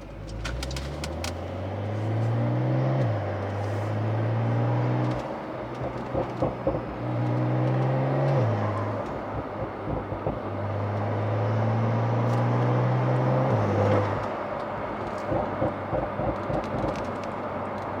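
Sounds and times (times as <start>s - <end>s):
car engine driving: 0.0s - 18.0s
exhaust cracks on overrun: 0.0s - 18.0s
road and wind noise: 0.0s - 18.0s.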